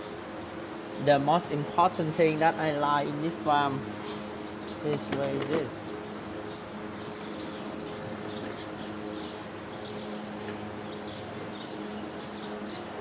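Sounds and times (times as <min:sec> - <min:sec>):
low mechanical hum: 0:00.0 - 0:13.0
small birds chirping: 0:00.0 - 0:13.0.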